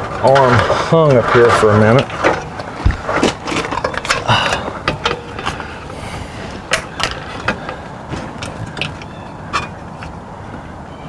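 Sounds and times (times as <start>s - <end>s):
metallic clanks and knocks: 0.0s - 10.2s.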